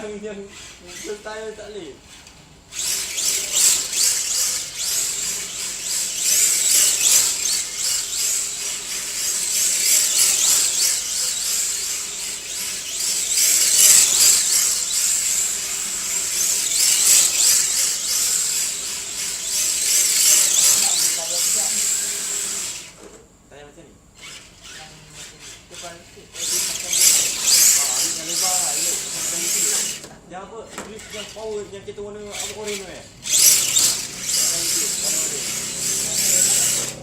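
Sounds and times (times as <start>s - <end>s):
small electric motor whine: 2.1s - 23.2s, 24.2s - 31.6s, 32.2s - 37.0s.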